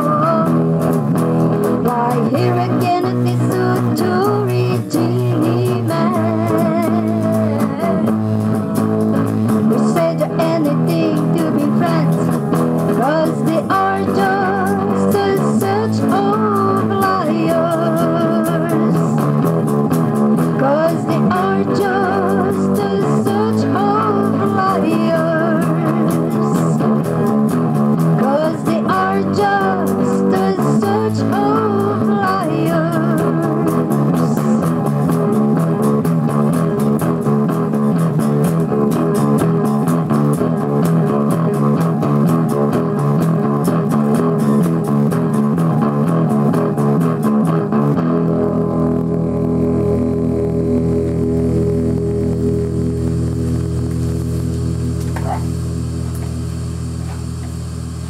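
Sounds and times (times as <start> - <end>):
electric guitar and bass song: 0.0 - 58.0.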